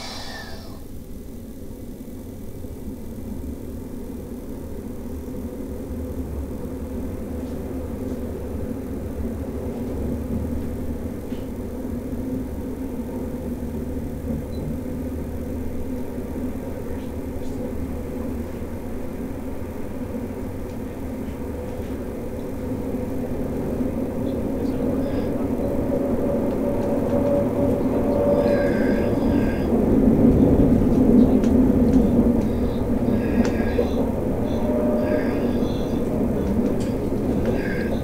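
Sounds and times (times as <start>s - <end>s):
train wheels rumbling on rail: 0.0s - 1.1s, 3.7s - 38.0s
train motor hum: 0.0s - 3.0s, 3.7s - 38.0s.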